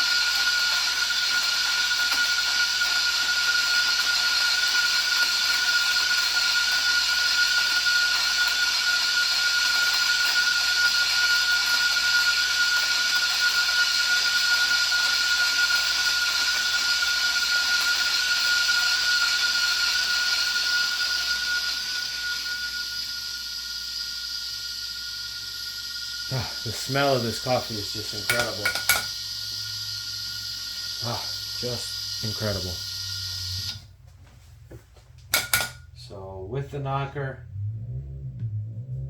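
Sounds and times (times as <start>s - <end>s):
electric coffee grinder running: 0.0s - 33.9s, 35.3s - 35.8s.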